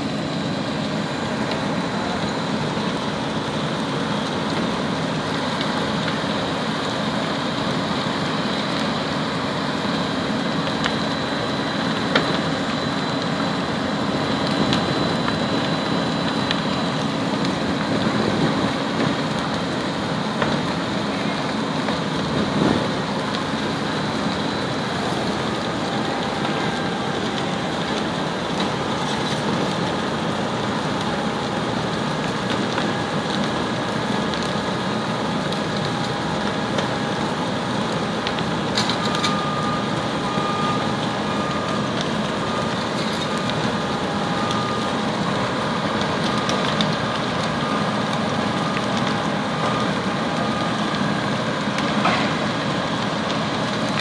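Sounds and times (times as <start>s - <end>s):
fire engine diesel engines: 0.0s - 54.0s
rush of fire: 0.0s - 54.0s.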